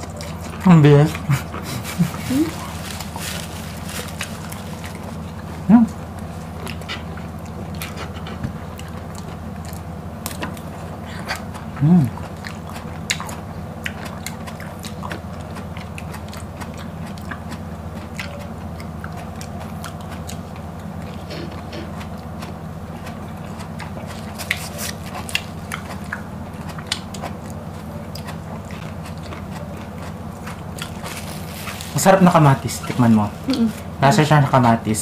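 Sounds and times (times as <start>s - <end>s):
crunching and chewing vegetables: 0.0s - 35.0s
steady low hum: 0.0s - 35.0s.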